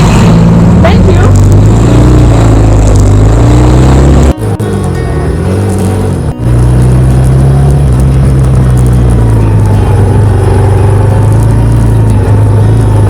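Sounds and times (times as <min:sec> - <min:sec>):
motorcycle engine droning: 0:00.0 - 0:13.0.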